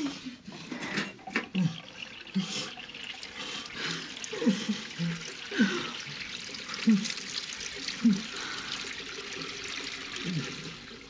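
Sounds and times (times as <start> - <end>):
tap water running into sink: 0.6 - 11.0.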